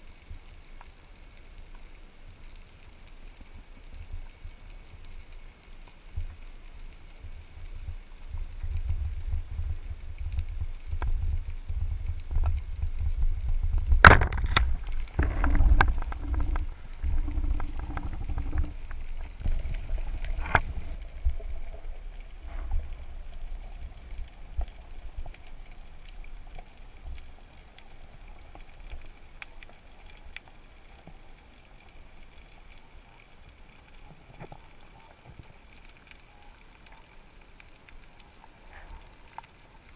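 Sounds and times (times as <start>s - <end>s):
underwater rumble of moving water: 0.0s - 39.9s.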